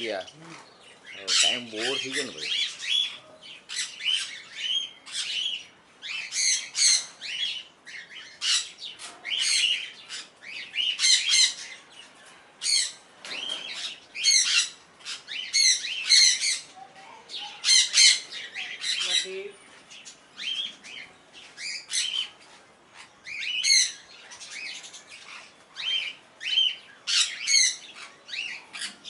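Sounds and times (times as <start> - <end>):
parrots squawking and screeching: 0.4 - 11.8, 12.6 - 29.0.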